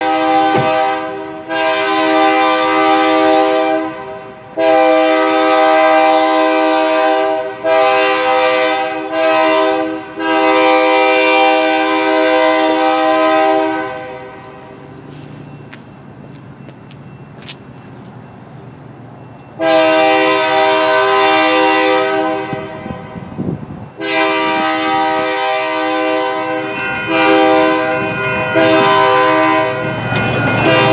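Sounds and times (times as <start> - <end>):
locomotive air horn blasts: 0.0 - 14.8, 19.6 - 30.9.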